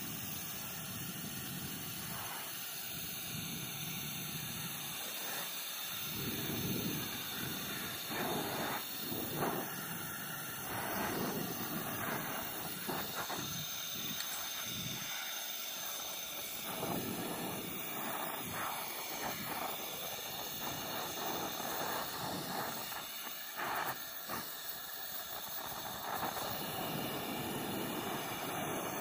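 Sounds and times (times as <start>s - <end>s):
burner flame hissing: 0.0s - 29.0s.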